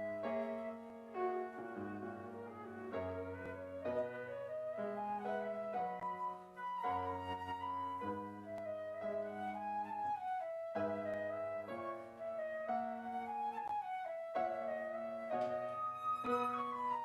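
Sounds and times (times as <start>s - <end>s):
flute-like melody: 0.0s - 17.0s.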